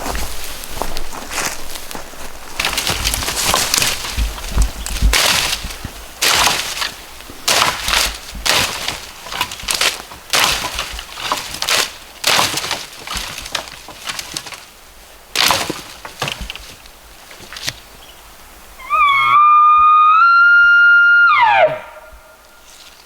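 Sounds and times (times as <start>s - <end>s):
footsteps crunching through dry brush: 0.0s - 18.6s, 21.8s - 23.0s.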